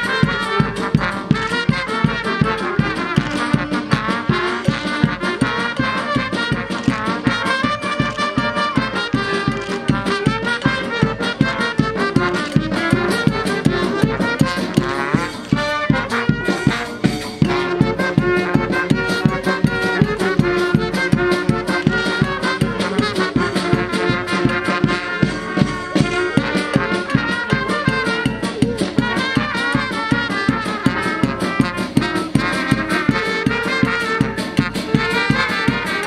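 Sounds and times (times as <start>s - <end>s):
upbeat instrumental music: 0.0s - 36.0s.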